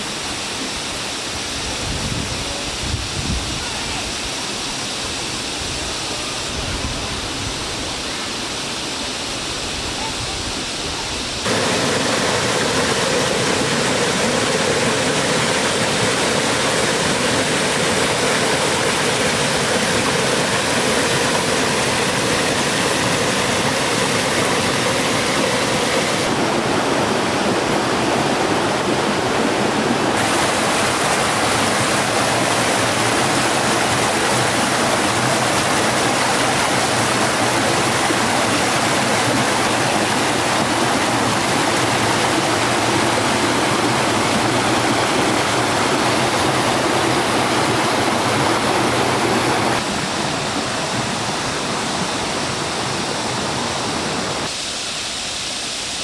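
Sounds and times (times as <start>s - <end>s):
rush of running water: 0.0s - 56.0s.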